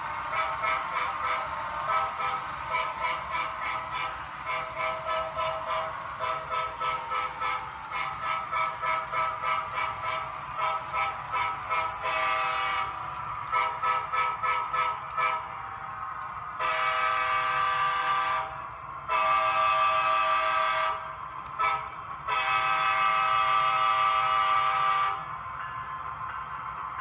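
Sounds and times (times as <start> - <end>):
model locomotive horn: 0.0 - 15.6, 16.6 - 25.4.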